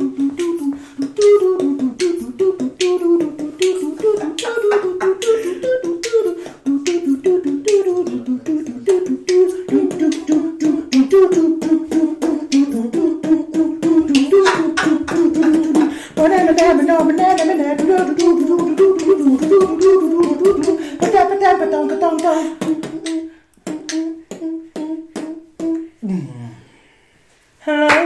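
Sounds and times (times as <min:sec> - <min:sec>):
hummed melody: 0:00.0 - 0:26.0
man beatboxing: 0:00.0 - 0:26.4.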